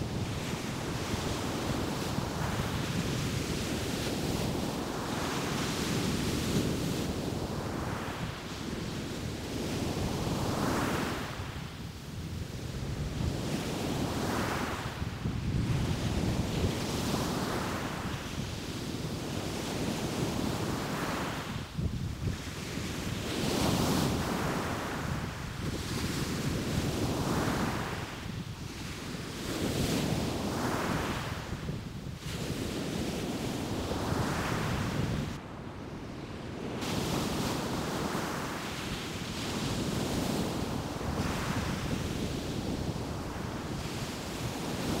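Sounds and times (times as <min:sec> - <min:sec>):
wind rumbling on microphone: 0:00.0 - 0:45.0.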